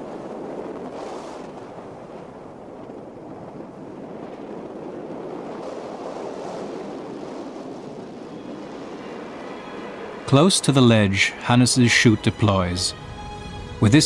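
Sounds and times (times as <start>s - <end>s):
rushing wind roar: 0.0s - 14.0s.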